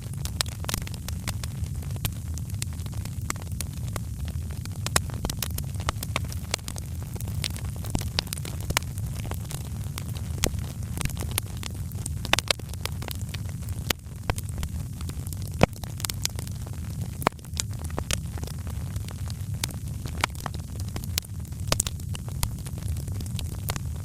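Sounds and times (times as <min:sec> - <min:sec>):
low fire rumble: 0:00.0 - 0:24.0
wood fire crackling: 0:00.0 - 0:24.0.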